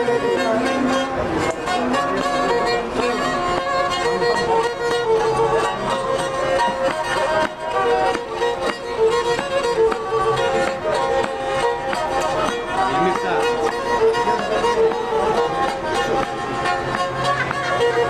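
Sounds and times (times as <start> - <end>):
bowed string instrument melody: 0.0 - 18.0
percussive strikes keeping beat: 0.0 - 18.0.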